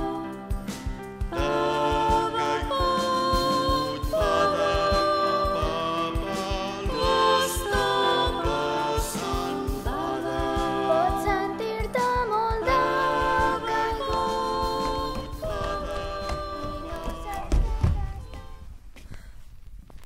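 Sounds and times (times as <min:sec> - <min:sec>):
song with vocals and beat: 0:00.0 - 0:18.7.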